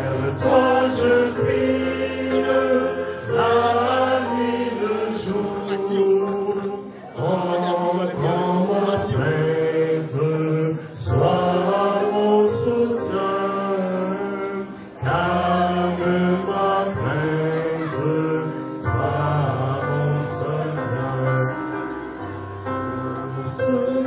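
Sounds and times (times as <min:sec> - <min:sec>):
slow sung music: 0:00.0 - 0:24.0.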